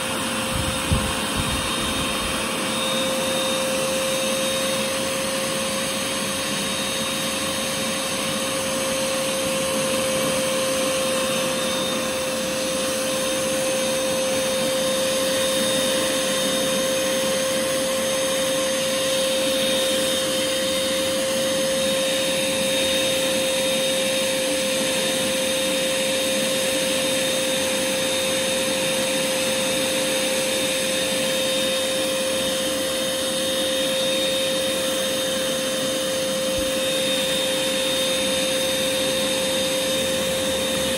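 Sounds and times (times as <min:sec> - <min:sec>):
vacuum motor running with whine: 0:00.0 - 0:40.9.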